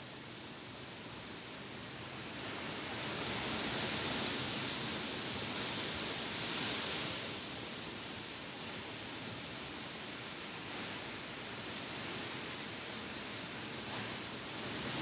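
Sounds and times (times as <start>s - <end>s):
wind rustling leaves: 0.0s - 15.0s.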